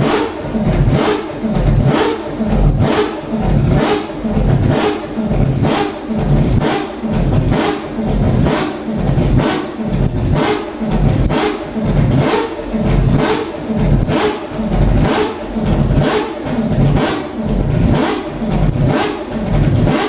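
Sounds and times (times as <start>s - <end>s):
racing engine revving: 0.0s - 20.0s.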